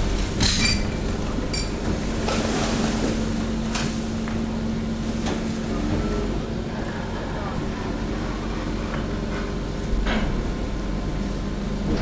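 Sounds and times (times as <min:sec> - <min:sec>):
hydraulic hum: 0:00.0 - 0:12.0.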